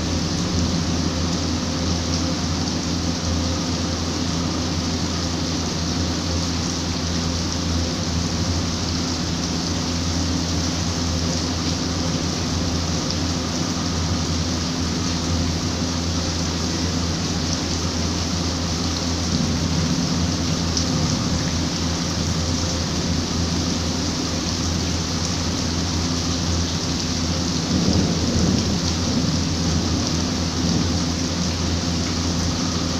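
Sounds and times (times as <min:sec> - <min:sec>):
low steady hum: 0:00.0 - 0:32.9
steady rain hiss: 0:00.0 - 0:32.9.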